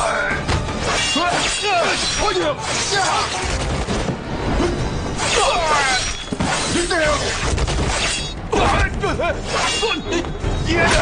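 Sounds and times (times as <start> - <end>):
dramatic background music: 0.0 - 11.0.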